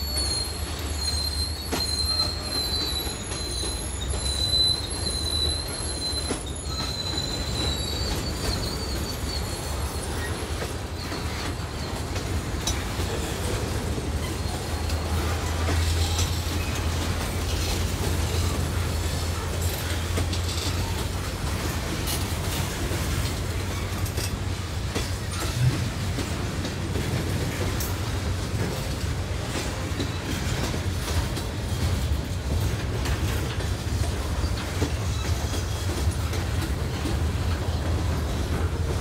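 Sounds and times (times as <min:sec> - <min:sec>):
wheels squealing: 0:00.0 - 0:26.3, 0:27.0 - 0:39.0
freight train rumbling: 0:00.0 - 0:39.0
wheels clicking on rail: 0:00.0 - 0:39.0.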